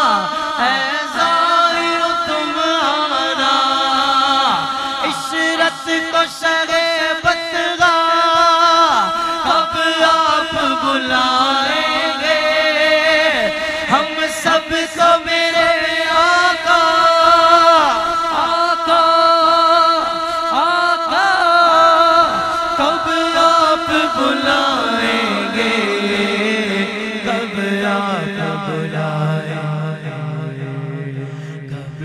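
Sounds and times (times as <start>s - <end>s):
men singing devotional hymn: 0.0s - 32.0s.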